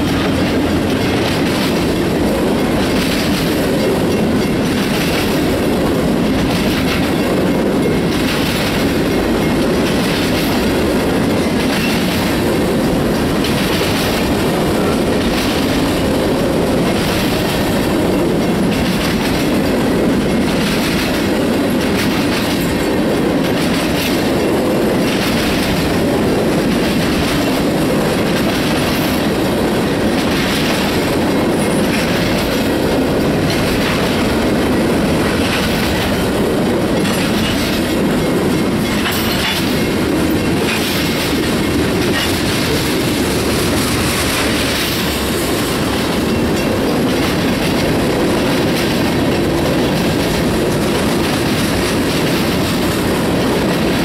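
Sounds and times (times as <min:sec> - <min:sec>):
train clickety-clack: 0:00.0 - 0:54.0
train wheels rumbling on rail: 0:00.0 - 0:54.0.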